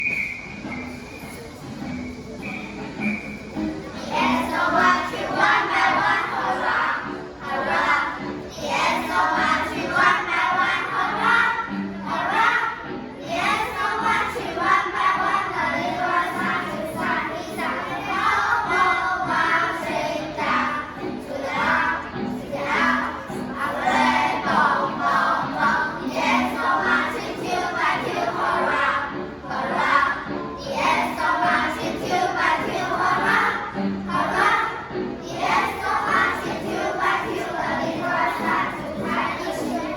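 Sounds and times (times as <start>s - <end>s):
children singing in chorus: 2.7s - 39.9s.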